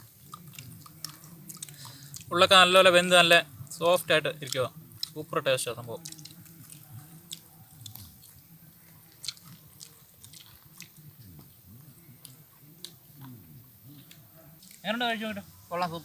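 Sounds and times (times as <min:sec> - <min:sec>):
person chewing fried chicken: 0:00.0 - 0:02.3, 0:03.4 - 0:14.8
mouth clicks: 0:00.0 - 0:02.4, 0:03.7 - 0:14.9.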